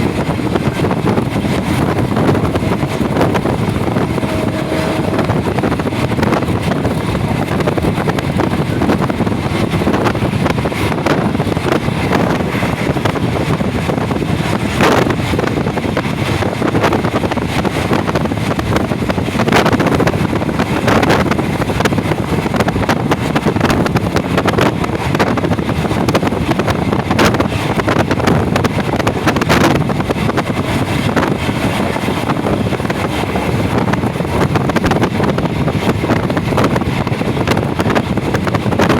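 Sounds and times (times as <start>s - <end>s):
moving train rumble: 0.0s - 38.9s
wind noise on microphone: 0.0s - 38.9s.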